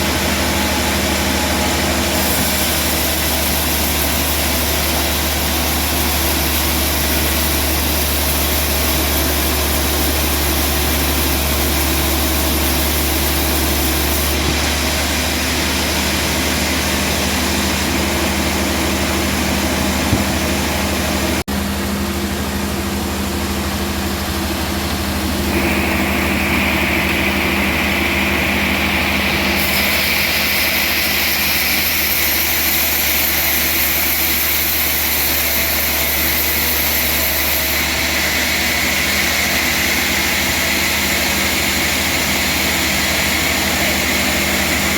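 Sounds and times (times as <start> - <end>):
sawmill engine droning: 0.0 - 44.9.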